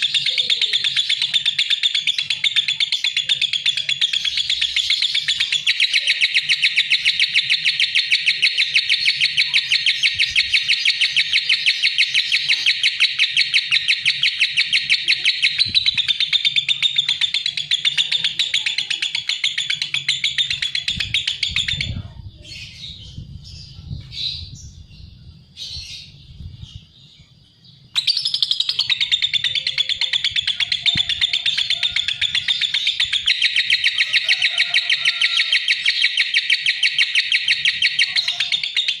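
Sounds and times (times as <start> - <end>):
bird shrill chirping: 0.0 - 39.0.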